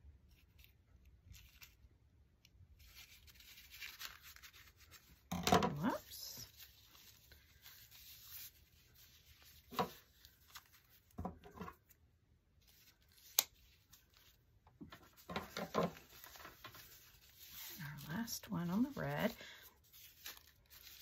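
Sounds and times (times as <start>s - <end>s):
plastic rustling and crinkling: 0.2s - 12.0s, 12.6s - 21.0s.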